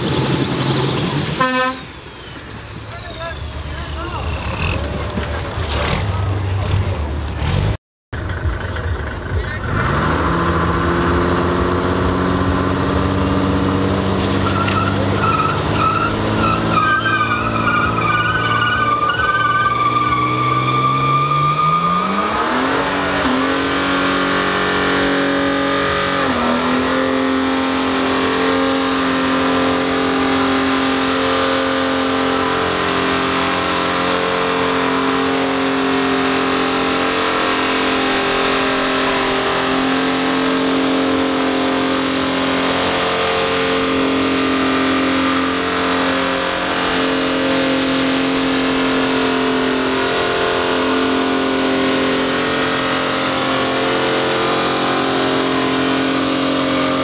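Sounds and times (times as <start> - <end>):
car engine revving: 2.9 - 57.0.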